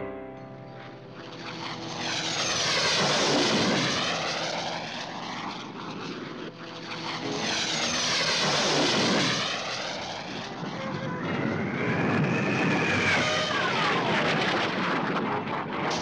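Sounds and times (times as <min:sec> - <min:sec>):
cartoon aircraft whoosh: 0:00.0 - 0:16.0.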